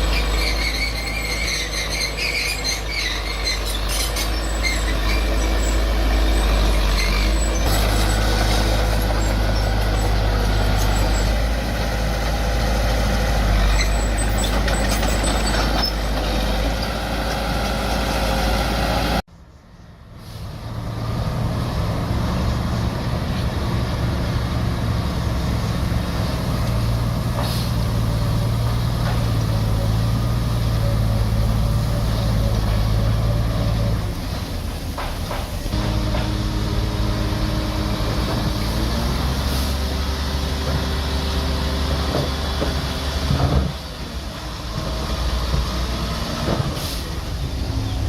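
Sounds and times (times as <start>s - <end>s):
heavy diesel engine running hard: 0.0s - 19.2s, 20.3s - 48.0s.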